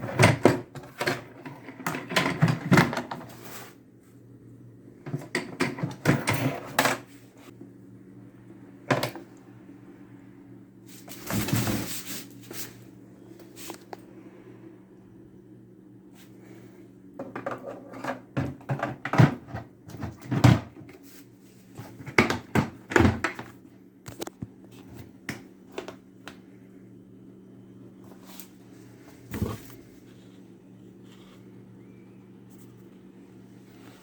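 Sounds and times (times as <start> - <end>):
faint low hum: 0.0 - 34.0.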